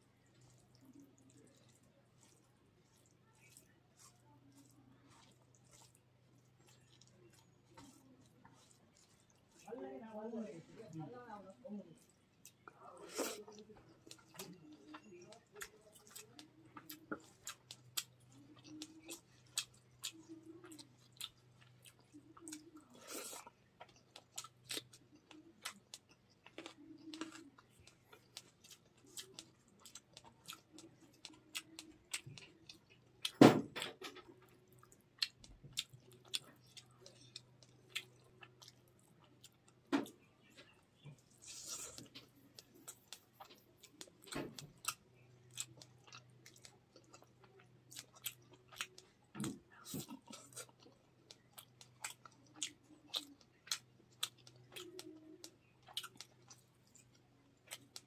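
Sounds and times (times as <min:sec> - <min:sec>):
chewing with wet mouth clicks: 0:00.0 - 0:09.8, 0:12.0 - 0:58.0
faint low hum: 0:00.0 - 0:58.0.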